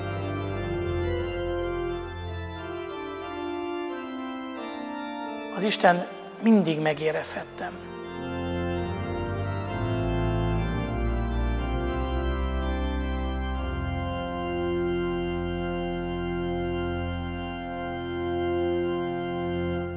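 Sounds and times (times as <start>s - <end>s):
organ playing slow chords: 0.0s - 19.9s.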